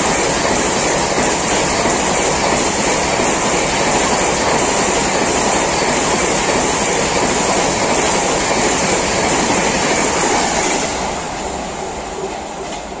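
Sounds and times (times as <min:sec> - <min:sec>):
wheels clacking over rail joints: 0:00.0 - 0:11.2
train wheel rumble: 0:00.0 - 0:13.0.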